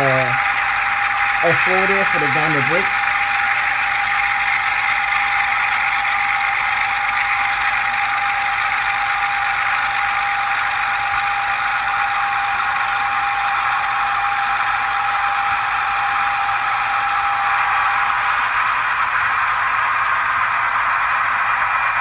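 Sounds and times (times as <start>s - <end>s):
model diesel engine running: 0.0s - 22.0s.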